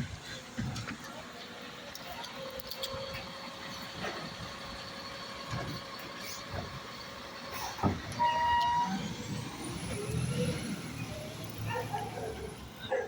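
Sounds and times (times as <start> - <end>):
garbage truck engine rumble: 0.0 - 13.0.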